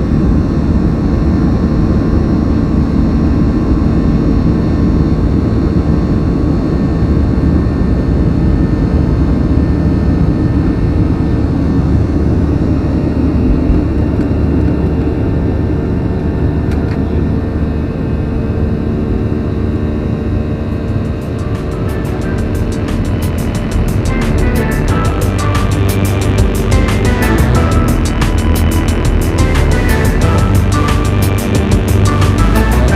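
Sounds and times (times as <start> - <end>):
jet engines heard from cabin: 0.0 - 32.9.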